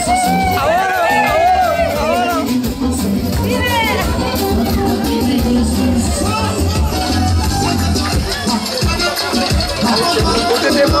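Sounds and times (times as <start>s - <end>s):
loud dance music: 0.0s - 11.0s.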